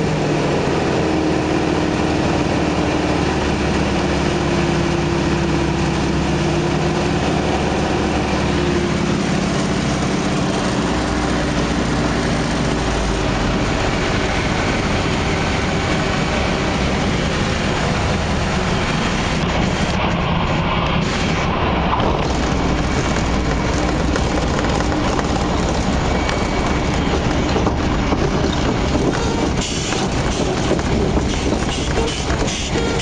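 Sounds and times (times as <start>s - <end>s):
loud airflow noise: 0.0s - 33.0s
radial engine and propeller: 0.0s - 33.0s.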